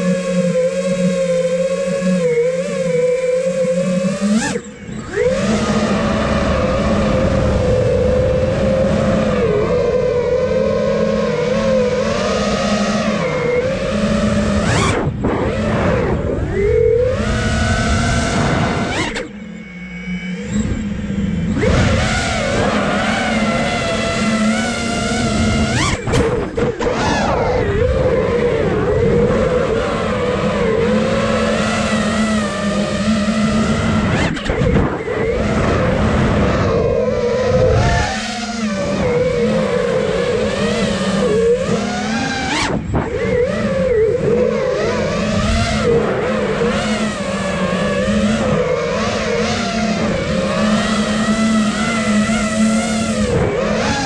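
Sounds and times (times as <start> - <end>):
quadcopter motors whining: 0.0 - 54.0.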